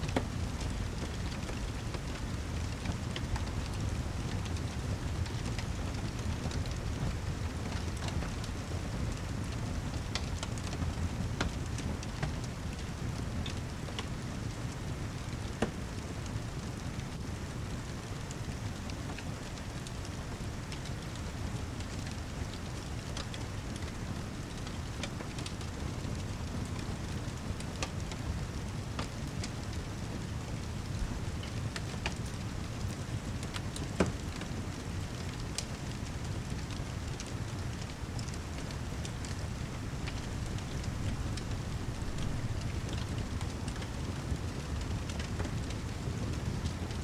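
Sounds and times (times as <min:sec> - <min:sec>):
fireplace crackling: 0:00.0 - 0:47.0
heavy rain: 0:00.1 - 0:47.0.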